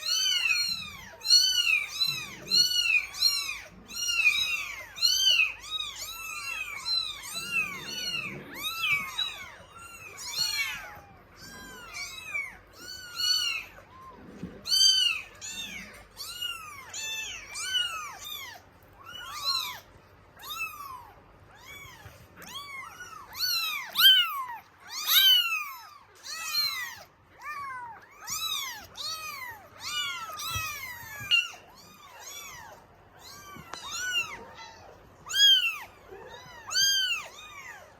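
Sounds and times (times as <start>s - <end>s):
kittens meowing: 0.0s - 37.9s.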